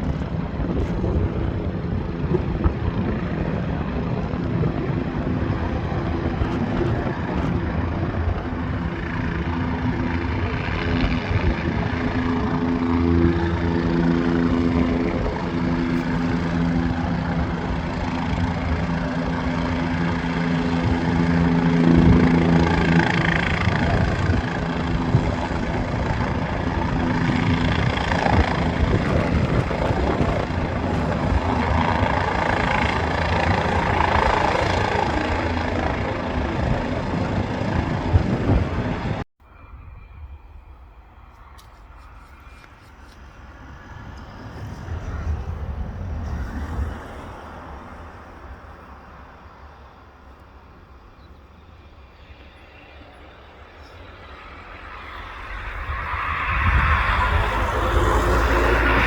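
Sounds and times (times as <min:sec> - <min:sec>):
aircraft engines droning: 0:00.0 - 0:59.0.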